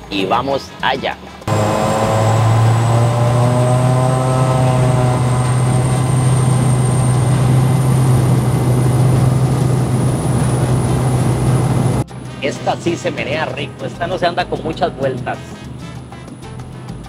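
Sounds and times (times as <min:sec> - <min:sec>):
light aircraft engine drone: 0:01.5 - 0:17.0.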